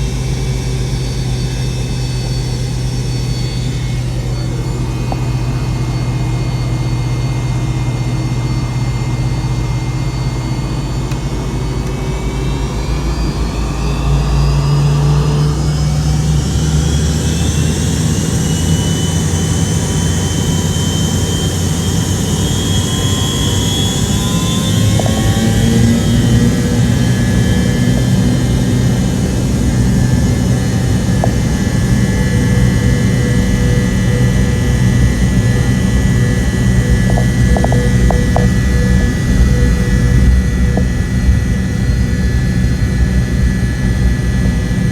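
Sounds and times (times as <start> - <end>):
engine whine rising: 0.0 - 44.9
jet engines in cabin: 0.0 - 44.9.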